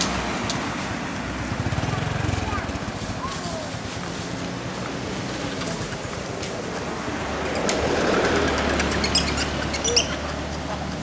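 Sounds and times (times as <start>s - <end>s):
outdoor background rumble: 0.0s - 11.0s.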